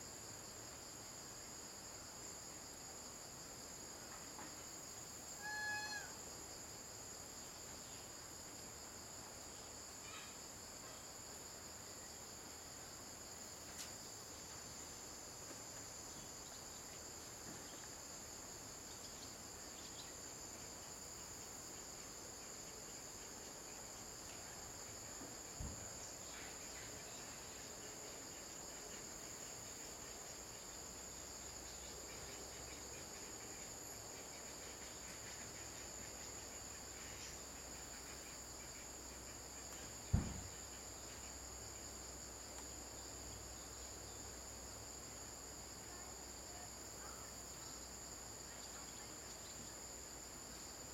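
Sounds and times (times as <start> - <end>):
insect chorus drone: 0.0 - 50.9.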